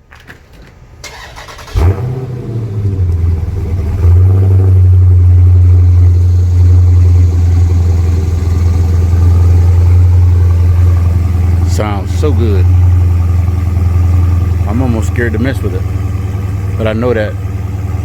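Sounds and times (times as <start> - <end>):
car engine idling: 1.1 - 18.0.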